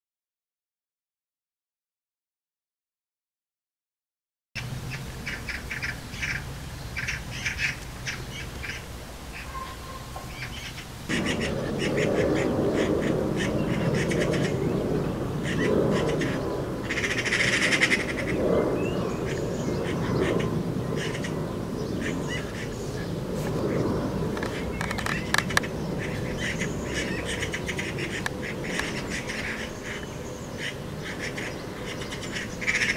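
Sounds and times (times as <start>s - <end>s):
steady low background noise: 4.6s - 32.9s
magpies chattering: 4.9s - 32.9s.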